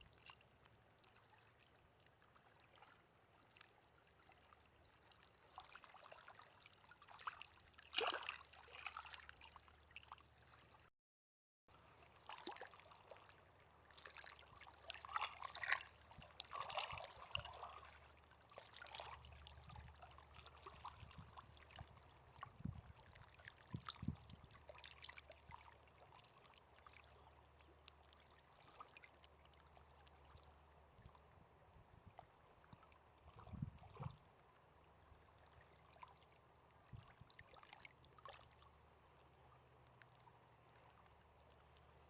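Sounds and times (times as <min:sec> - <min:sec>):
water trickling and splashing: 0:00.0 - 0:10.9, 0:11.7 - 0:42.0.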